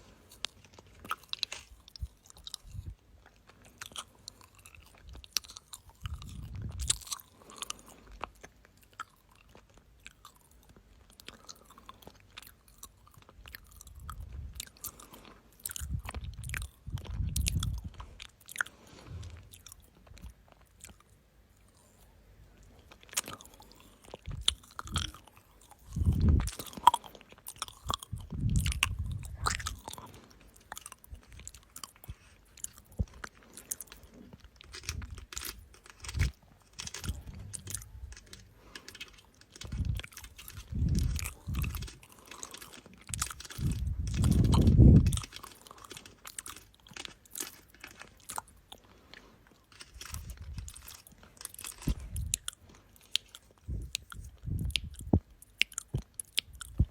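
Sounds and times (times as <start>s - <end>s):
crisp clicks and crackles: 0.0s - 56.9s.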